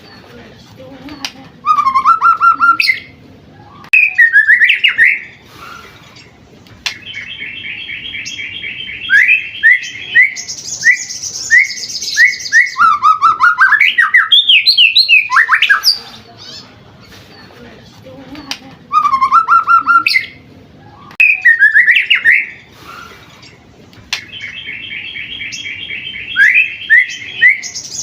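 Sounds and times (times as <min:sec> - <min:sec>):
songbird singing varied song: 0:01.0 - 0:16.7, 0:18.4 - 0:23.1, 0:24.0 - 0:28.0.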